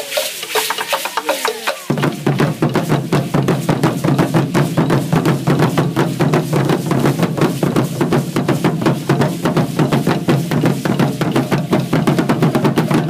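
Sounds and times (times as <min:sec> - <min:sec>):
fast drum beat: 0:00.0 - 0:13.0.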